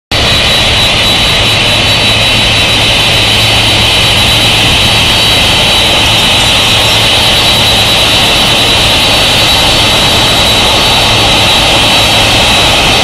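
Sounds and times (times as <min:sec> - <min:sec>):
jet engines whining: 0:00.1 - 0:13.0
low hum: 0:00.1 - 0:13.0.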